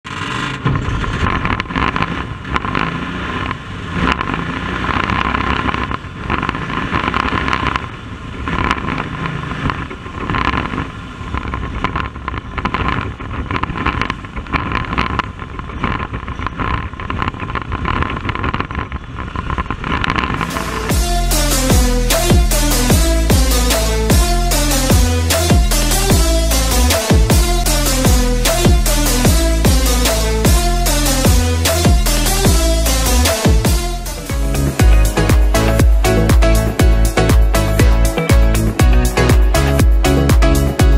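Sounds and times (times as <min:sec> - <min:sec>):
race car engine running: 0:00.0 - 0:40.9.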